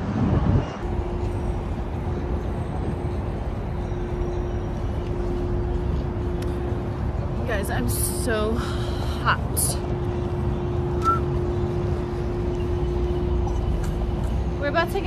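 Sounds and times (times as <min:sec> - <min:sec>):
traffic rumble on highway: 0:00.0 - 0:15.0.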